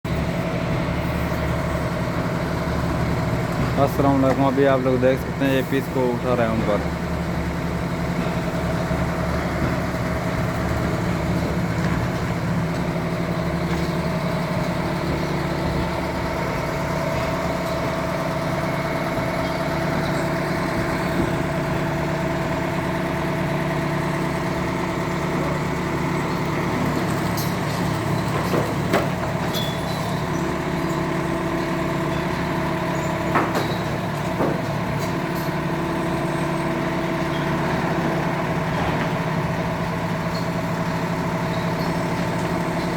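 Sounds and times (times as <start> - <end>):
engine running steadily: 0.1 - 42.9.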